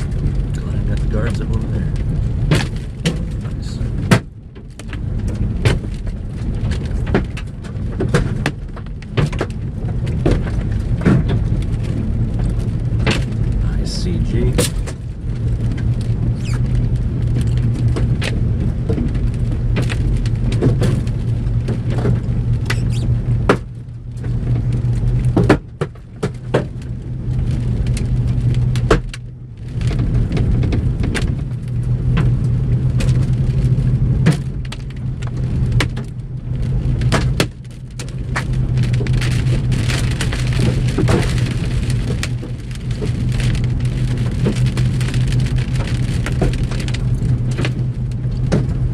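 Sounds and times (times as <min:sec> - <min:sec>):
hail hitting vehicle roof: 0:00.0 - 0:48.9
rain on vehicle roof: 0:00.0 - 0:48.9
vehicle low hum: 0:00.0 - 0:48.9.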